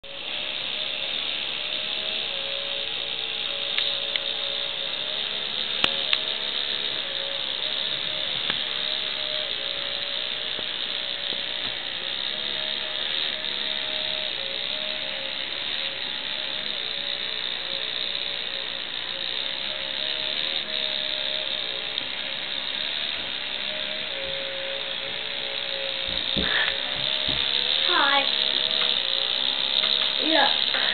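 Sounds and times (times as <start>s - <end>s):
small electric motor whining: 0.0s - 30.9s.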